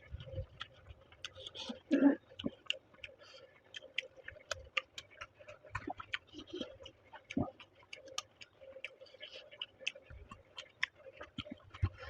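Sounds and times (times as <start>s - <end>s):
faint steady hum: 0.0s - 12.0s
wet mouth chewing clicks: 0.0s - 12.0s.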